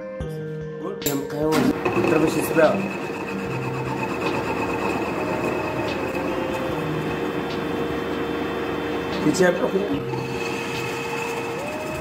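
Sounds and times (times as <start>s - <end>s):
metal lathe humming: 1.7s - 12.0s.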